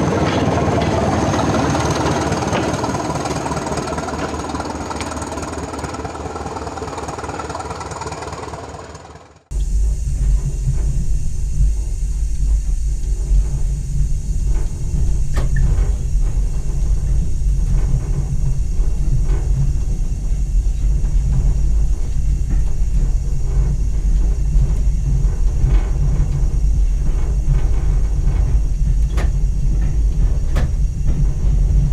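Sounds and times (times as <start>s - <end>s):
diesel train low rumble: 0.0s - 31.9s.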